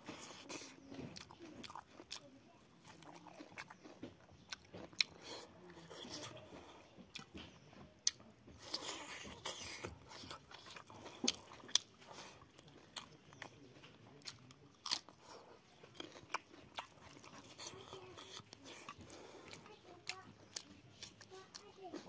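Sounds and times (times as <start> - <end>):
close-up chewing: 0.0 - 22.0
food crunching: 0.0 - 22.0.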